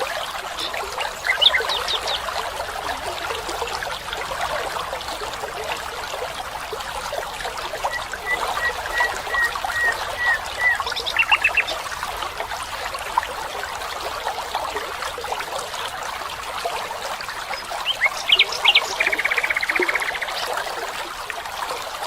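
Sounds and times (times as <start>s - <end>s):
trickling stream: 0.0s - 22.0s.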